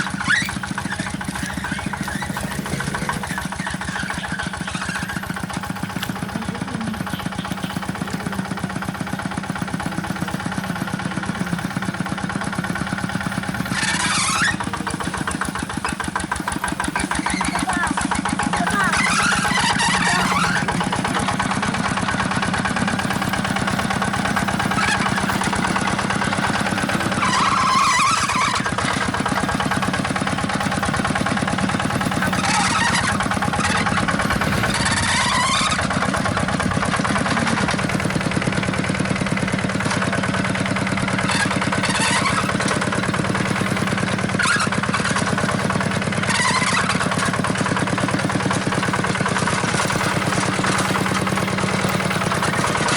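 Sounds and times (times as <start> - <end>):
small engine running steadily: 0.0 - 52.9.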